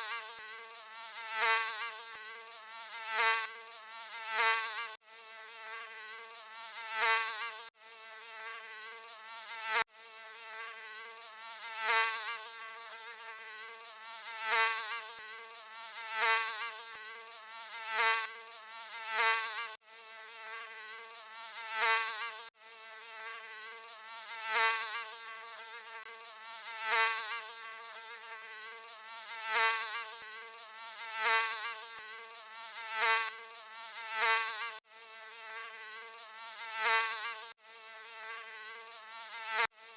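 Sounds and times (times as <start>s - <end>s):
mosquito wing buzz: 0.0s - 39.9s.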